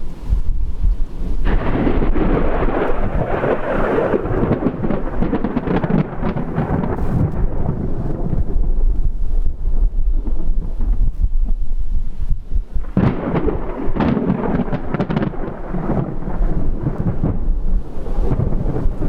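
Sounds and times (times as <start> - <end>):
thunder crack and rumble: 0.0 - 19.0
wind rumble on microphone: 0.0 - 19.0.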